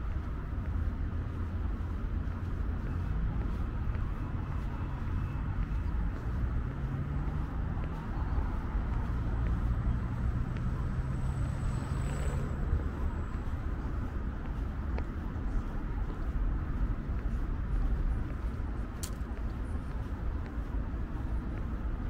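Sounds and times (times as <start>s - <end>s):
engine humming: 0.0s - 22.0s
rumble of motor vehicles: 0.0s - 22.0s.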